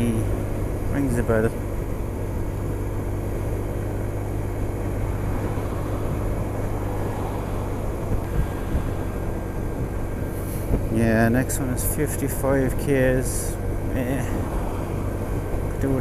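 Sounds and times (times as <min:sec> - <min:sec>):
scooter engine droning: 0:00.0 - 0:16.0
wind and road noise: 0:00.0 - 0:16.0.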